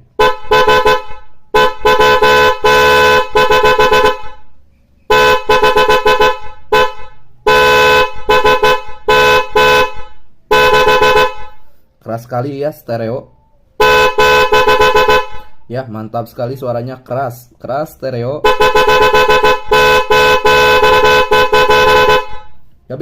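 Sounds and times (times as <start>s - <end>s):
two-tone horn blasts: 0.0s - 11.9s, 13.3s - 15.7s, 18.4s - 22.8s.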